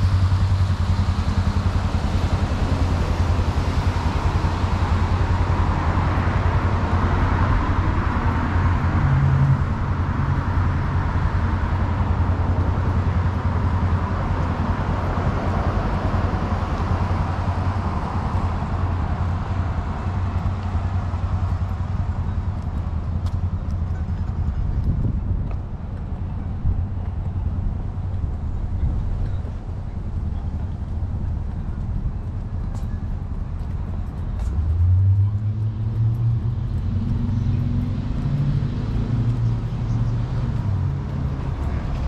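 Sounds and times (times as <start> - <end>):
cars passing: 0.0 - 42.0
low traffic rumble: 0.0 - 42.0.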